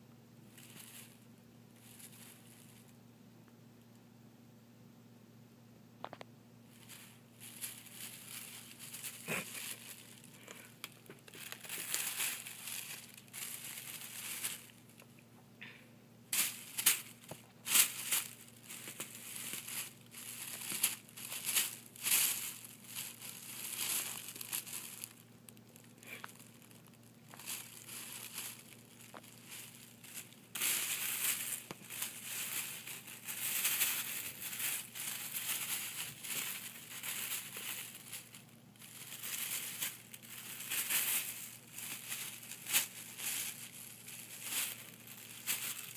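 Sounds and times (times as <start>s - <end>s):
plastic bag crinkling: 0.5s - 1.2s, 1.8s - 2.8s, 6.7s - 15.1s, 16.3s - 45.9s.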